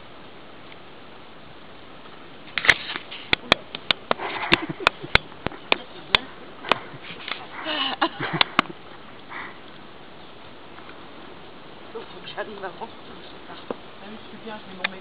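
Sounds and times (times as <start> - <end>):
soft rustling: 1.9 - 15.0.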